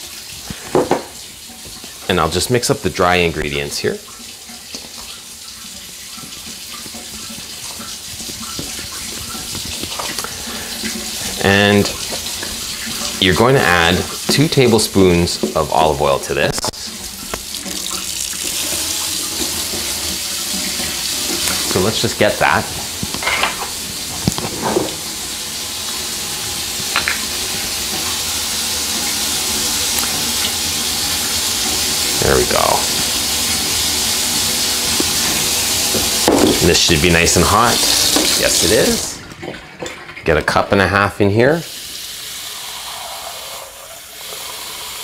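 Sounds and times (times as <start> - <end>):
tap water running: 0.0 - 45.0.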